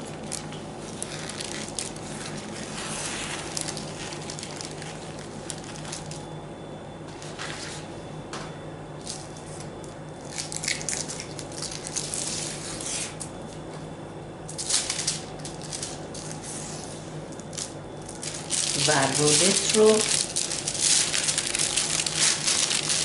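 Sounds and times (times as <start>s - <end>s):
baking paper rustling and crinkling: 0.0s - 6.3s, 7.1s - 7.9s, 9.0s - 13.3s, 14.5s - 23.0s.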